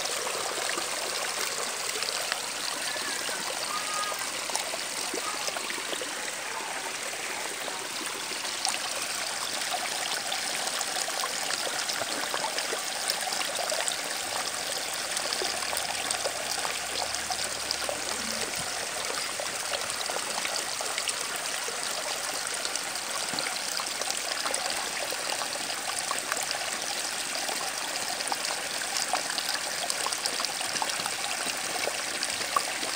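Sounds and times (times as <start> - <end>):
running water trickling: 0.0 - 32.9.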